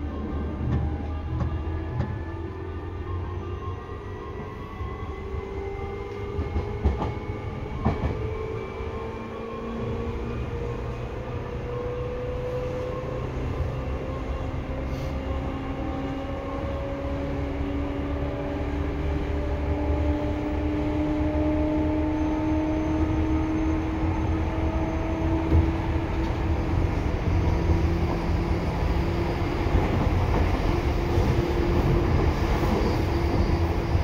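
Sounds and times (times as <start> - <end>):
wheels rumbling on rails: 0.0 - 2.8, 3.7 - 34.0.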